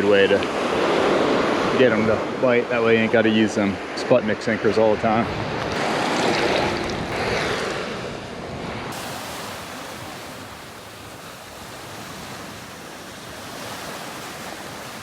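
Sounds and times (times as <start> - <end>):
ocean surf washing on beach: 0.0 - 4.0, 4.6 - 15.0.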